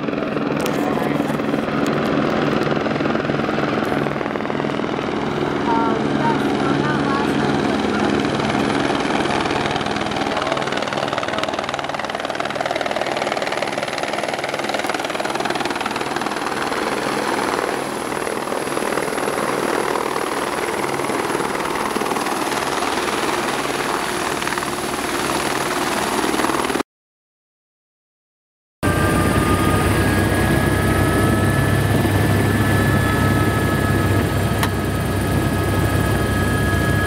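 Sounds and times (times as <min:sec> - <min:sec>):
helicopter rotor and engine: 0:00.0 - 0:26.8, 0:28.8 - 0:37.0.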